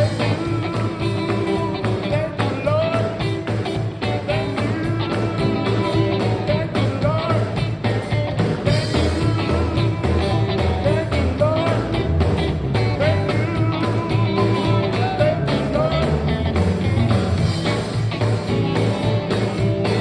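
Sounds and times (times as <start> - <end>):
driving bass: 0.0 - 20.0
drums: 0.0 - 20.0.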